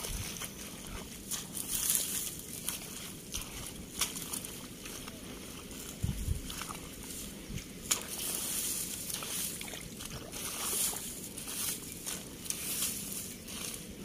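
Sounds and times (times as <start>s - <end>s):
water sloshing: 0.0s - 13.4s
hands squelching in wet mud: 0.0s - 14.0s.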